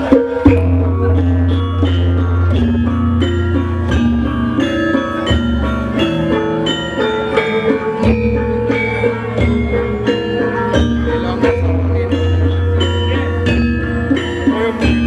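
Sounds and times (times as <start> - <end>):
metallophones playing melody: 0.0 - 15.0.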